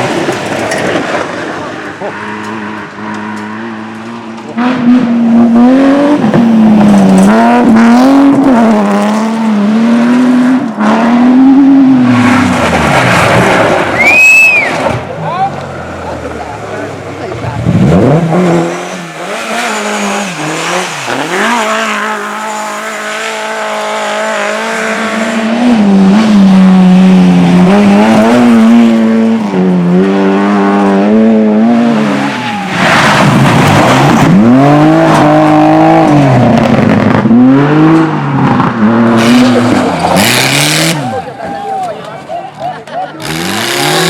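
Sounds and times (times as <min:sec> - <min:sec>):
race car engine revving: 0:00.0 - 0:44.0.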